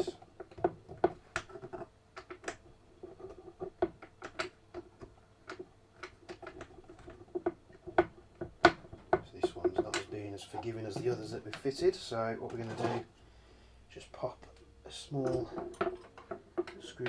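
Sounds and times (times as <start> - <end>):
small clicks and taps of plastic and metal: 0.0 - 12.6, 14.4 - 17.0.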